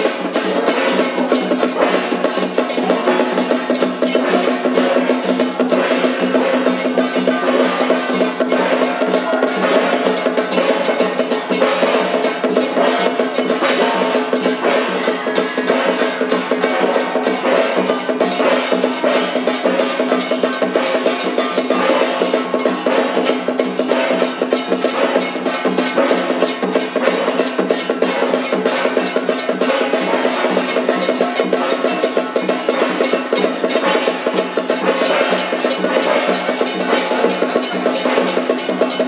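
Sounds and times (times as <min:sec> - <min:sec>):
fast drum and clapper percussion: 0:00.0 - 0:39.0.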